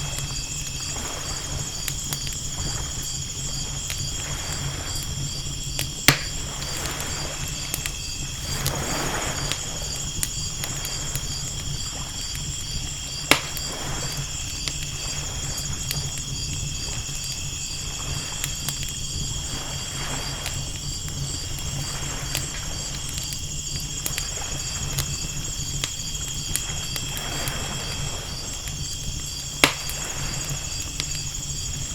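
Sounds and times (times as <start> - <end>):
ocean waves washing in: 0.0 - 23.1, 26.7 - 31.7
campfire pops: 0.0 - 31.9
crackling campfire: 0.0 - 31.9
crickets chirping: 0.0 - 31.9.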